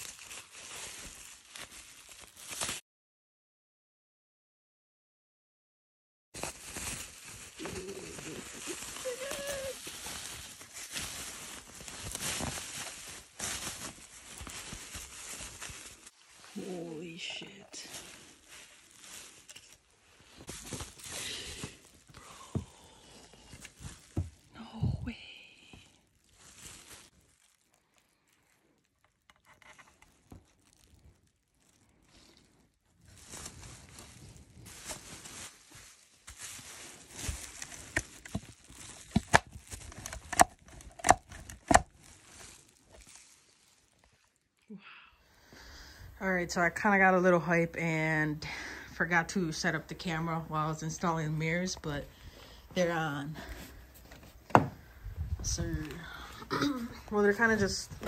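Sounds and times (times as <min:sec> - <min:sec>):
bubble wrap crinkling: 0:00.0 - 0:02.8, 0:06.4 - 0:44.7, 0:49.6 - 0:58.0.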